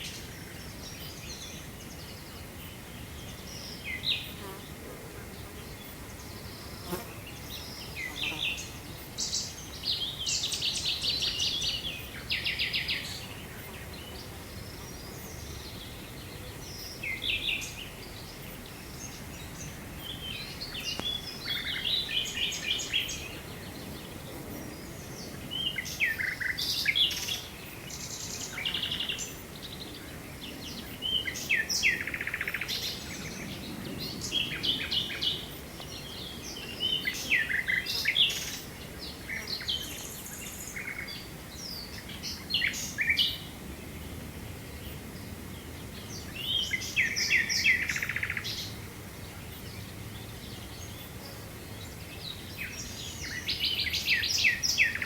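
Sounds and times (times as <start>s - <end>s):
low background noise: 0.0s - 55.0s
songbirds chirping: 0.0s - 55.0s.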